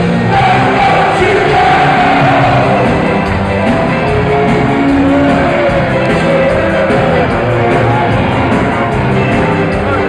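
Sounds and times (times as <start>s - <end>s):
live ska band playing: 0.0s - 10.0s.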